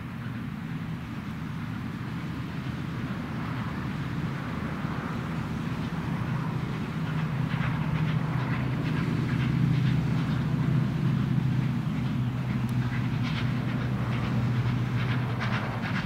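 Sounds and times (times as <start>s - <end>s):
steam locomotive rumble: 0.0s - 16.0s.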